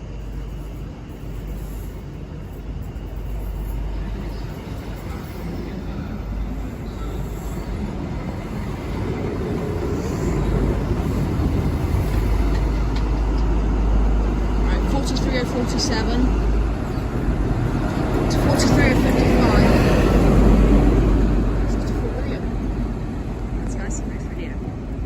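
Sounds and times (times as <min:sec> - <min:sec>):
diesel train engine: 0:00.0 - 0:25.0
train wheel noise: 0:00.0 - 0:25.0.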